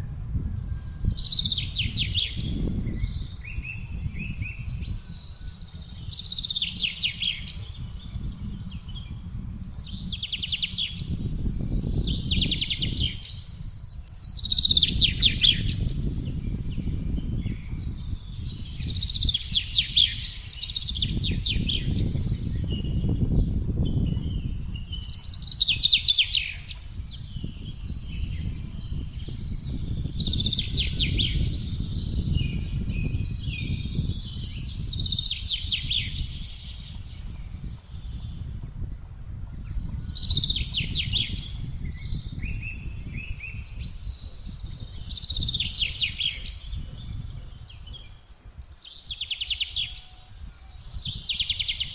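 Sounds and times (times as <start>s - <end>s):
songbird singing: 0.0s - 51.9s
wind rumble: 0.0s - 51.9s.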